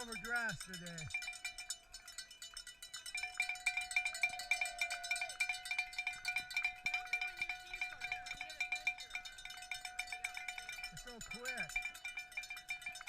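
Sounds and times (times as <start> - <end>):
cowbell rung fast: 0.0 - 13.0.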